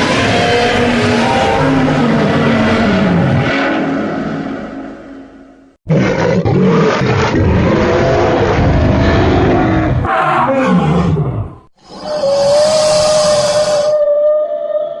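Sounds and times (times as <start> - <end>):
monster roar: 0.0 - 4.7, 5.9 - 14.7.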